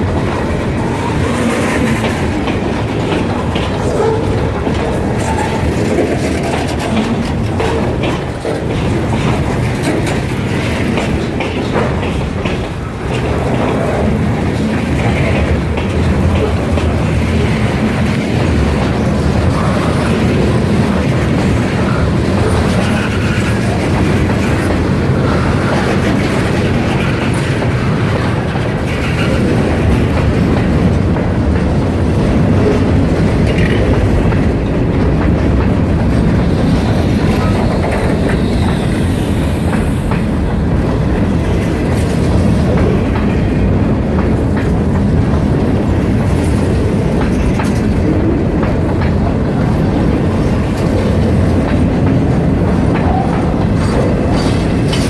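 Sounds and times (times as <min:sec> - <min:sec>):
freight train rolling past: 0:00.0 - 0:55.0
wheels clicking over rail joints: 0:00.0 - 0:55.0.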